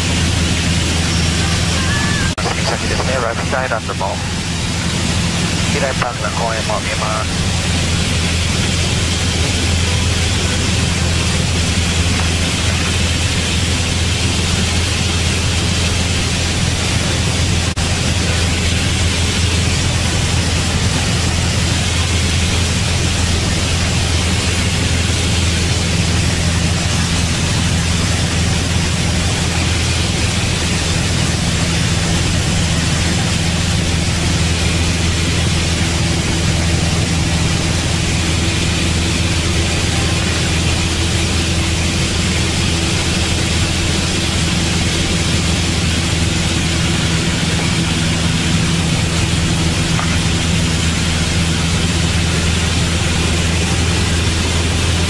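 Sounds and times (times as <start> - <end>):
propeller engine droning: 0.0 - 55.0.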